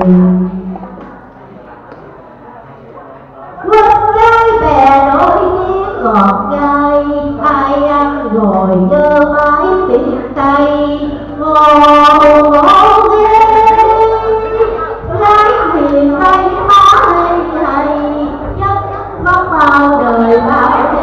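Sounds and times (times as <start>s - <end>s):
woman singing into microphone: 0.0s - 0.7s, 3.6s - 21.0s.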